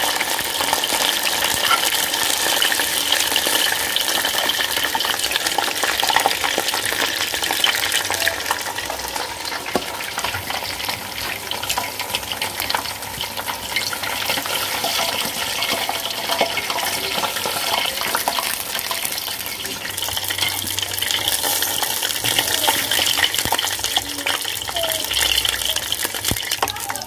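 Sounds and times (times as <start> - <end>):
chicken deep-frying in oil: 0.0 - 27.0
crackling pops: 4.4 - 26.8.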